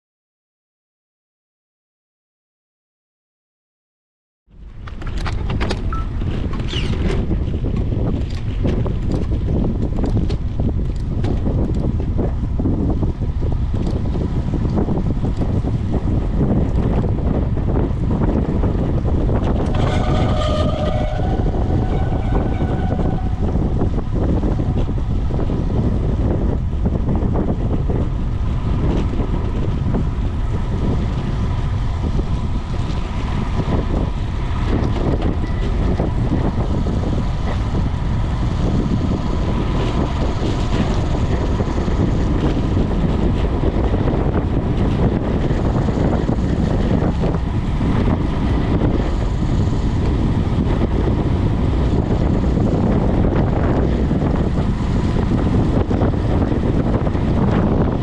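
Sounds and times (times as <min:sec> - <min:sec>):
wind buffeting microphone: 0:04.5 - 0:58.0.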